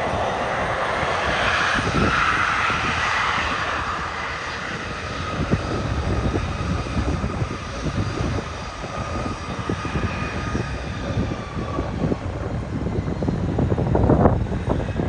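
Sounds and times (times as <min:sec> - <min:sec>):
airliner engines rumbling: 0:00.0 - 0:15.0
faint high engine whine: 0:00.0 - 0:15.0.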